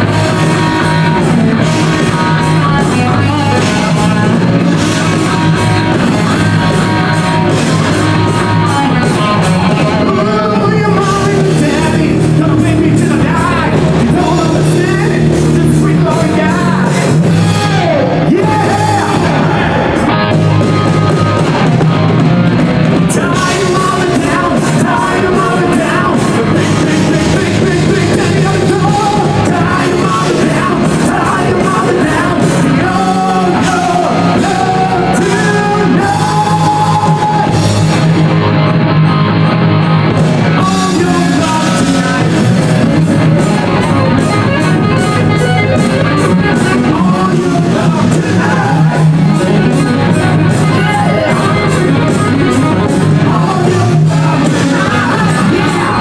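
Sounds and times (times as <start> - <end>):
rock song with singer and band: 0.0 - 56.0.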